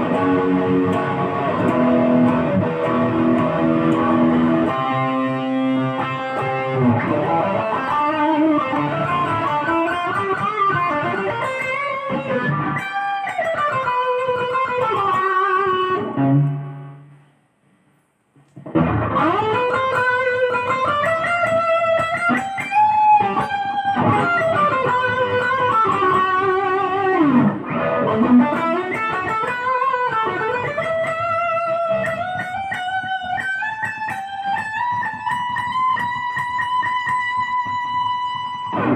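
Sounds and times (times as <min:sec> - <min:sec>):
electric guitar lead melody: 0:00.0 - 0:17.1, 0:18.6 - 0:38.9.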